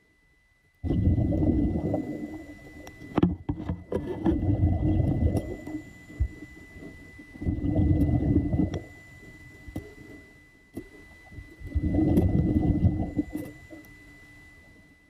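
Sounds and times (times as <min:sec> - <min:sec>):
water gurgling and sloshing: 0:00.8 - 0:15.0.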